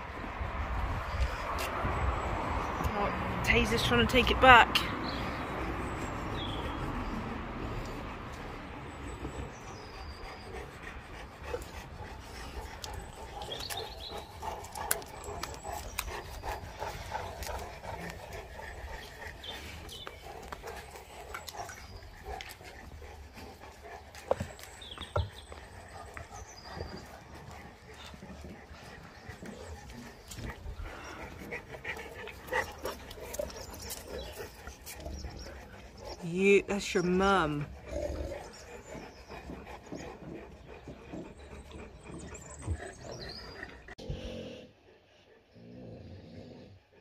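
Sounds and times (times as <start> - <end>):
dogs panting and snuffling: 0.0 - 47.0.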